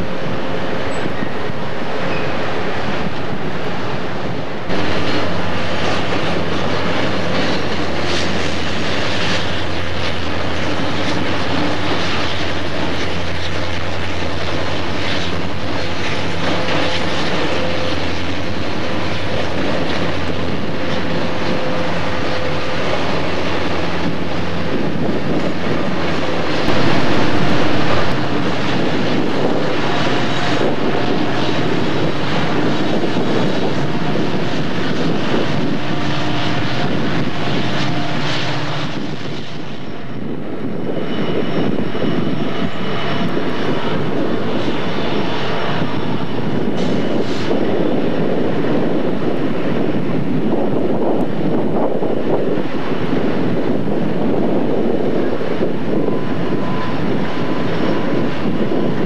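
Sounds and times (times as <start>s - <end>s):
low drone: 0.0s - 59.0s
train wheels rumbling on rail: 0.0s - 59.0s.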